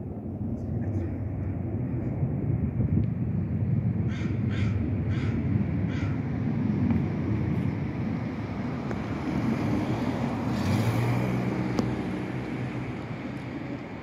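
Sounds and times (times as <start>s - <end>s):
deeper engine hum: 0.0s - 14.0s
distant aircraft drone: 0.0s - 14.0s.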